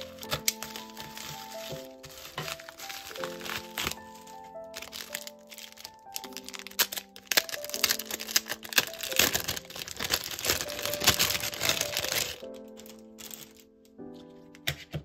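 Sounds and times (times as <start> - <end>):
plastic bag crinkling: 0.0 - 13.7
background music with held notes: 0.0 - 15.0.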